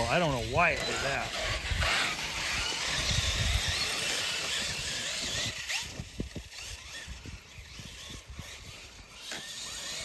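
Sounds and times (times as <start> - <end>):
electric motor whining: 0.0 - 10.0
tyres hissing on dirt: 0.0 - 10.0.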